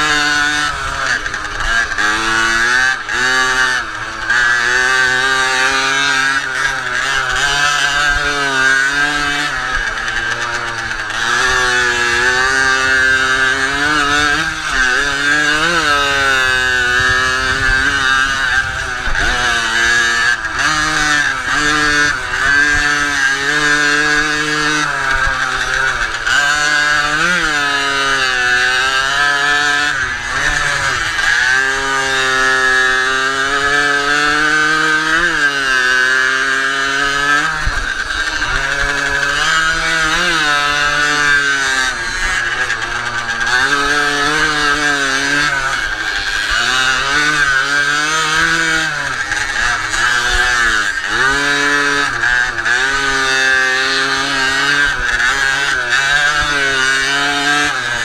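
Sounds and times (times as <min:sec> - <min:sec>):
two-stroke engine buzzing: 0:00.0 - 0:58.0.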